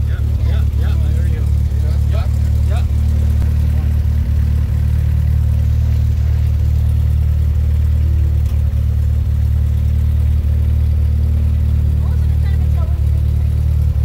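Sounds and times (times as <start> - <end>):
light aircraft engine and propeller drone: 0.0 - 14.0.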